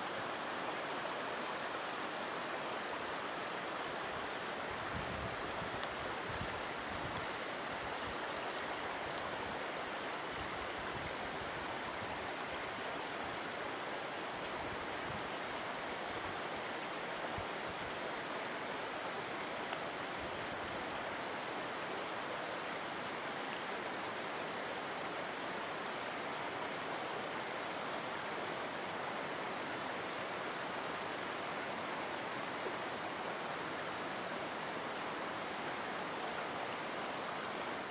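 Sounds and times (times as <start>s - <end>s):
river running over rocks: 0.0s - 37.9s.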